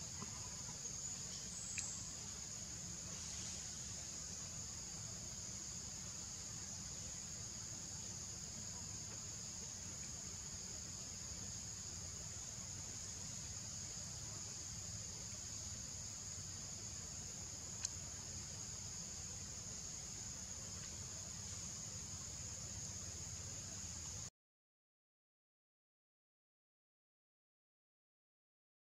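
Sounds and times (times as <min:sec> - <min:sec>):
insect chorus drone: 0:00.0 - 0:24.3.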